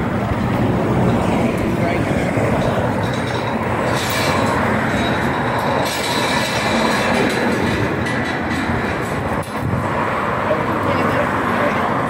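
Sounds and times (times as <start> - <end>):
cars and lorry passing: 0.0 - 12.0
road traffic rumble: 0.0 - 12.0.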